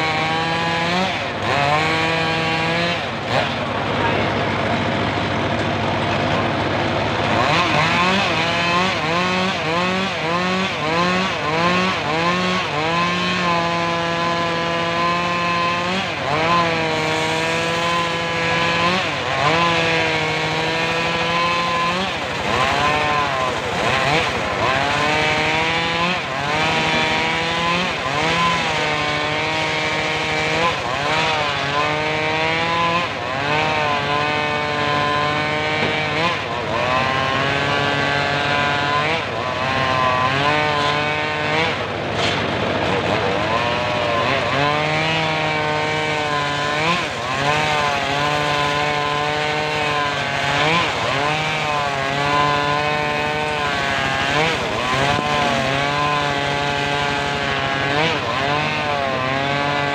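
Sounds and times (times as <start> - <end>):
engine-driven sawmill cutting wood: 0.0 - 59.9.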